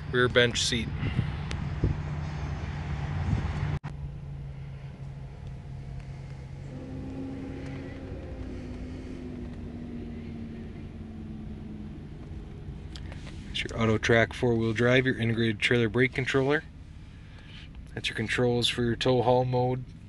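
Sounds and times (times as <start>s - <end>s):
pickup engine idling: 0.0s - 18.9s.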